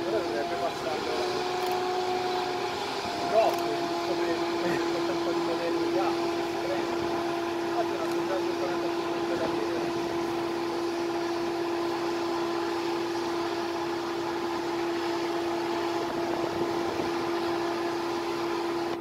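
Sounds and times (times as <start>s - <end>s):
locomotive blowers humming: 0.0s - 19.0s.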